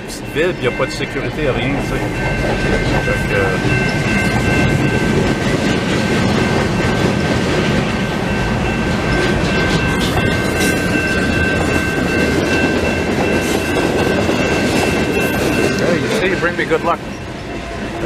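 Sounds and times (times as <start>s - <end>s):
freight train rumble: 0.0s - 18.0s
high-pitched ringing: 0.0s - 18.0s
wheels clacking over rails: 0.9s - 17.2s.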